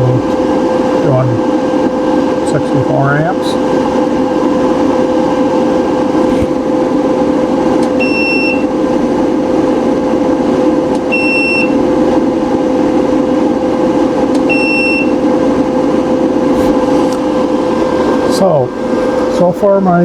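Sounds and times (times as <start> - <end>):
cooling fans humming: 0.0 - 20.0.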